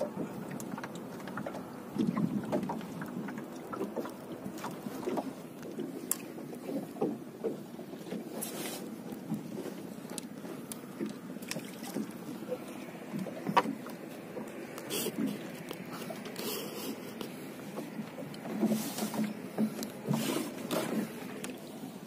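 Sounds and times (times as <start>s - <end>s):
water lapping against boat hull: 0.0s - 22.0s.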